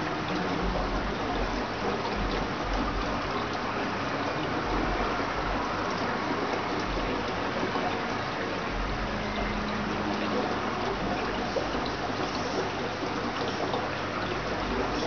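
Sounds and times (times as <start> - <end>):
water trickling into aquarium: 0.0 - 15.0.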